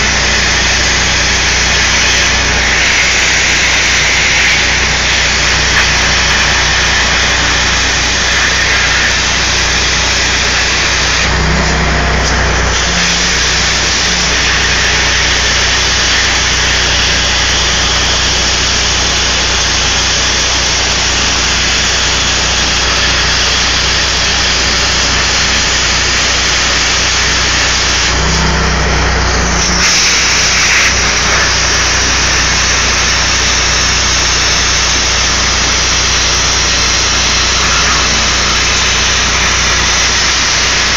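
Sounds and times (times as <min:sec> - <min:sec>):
plasma cutter hissing: 0:00.0 - 0:40.9.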